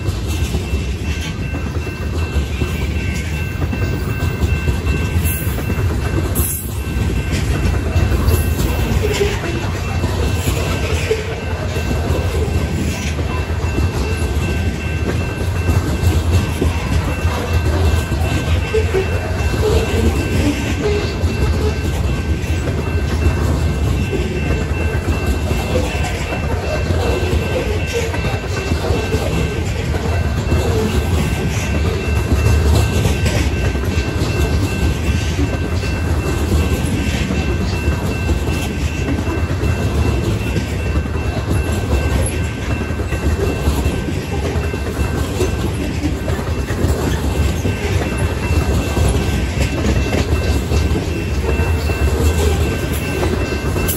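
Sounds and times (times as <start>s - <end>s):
clickety-clack of rail joints: 0.0s - 53.9s
freight train wheels rumbling: 0.0s - 53.9s.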